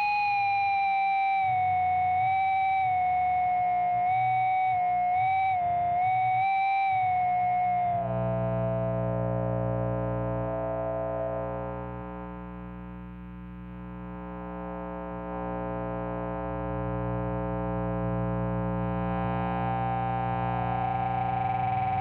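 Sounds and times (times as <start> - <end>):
amplifier buzzing hum: 0.0 - 22.0.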